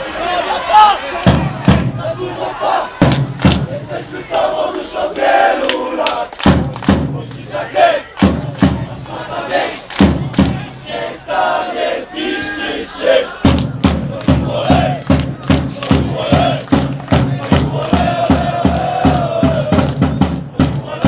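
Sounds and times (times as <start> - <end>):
crowd chanting: 0.0 - 21.0.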